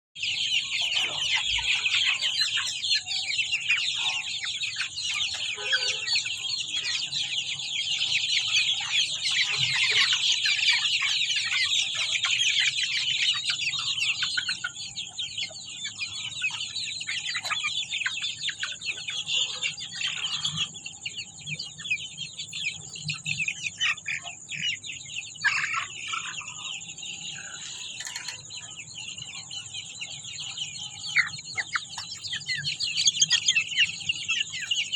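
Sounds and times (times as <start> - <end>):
chickens clucking and calling: 0.2 - 34.9.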